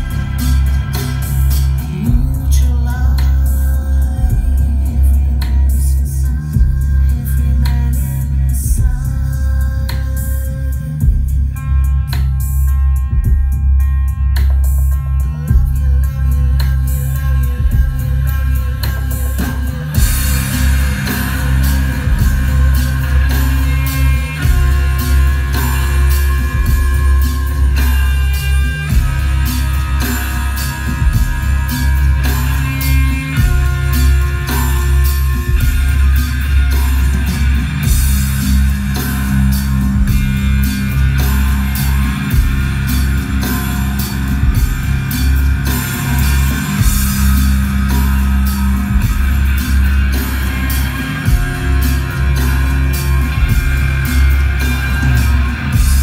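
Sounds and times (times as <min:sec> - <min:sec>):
heavy bass line: 0:00.0 - 0:56.0
rock music: 0:00.0 - 0:56.0
electric guitar: 0:06.7 - 0:56.0.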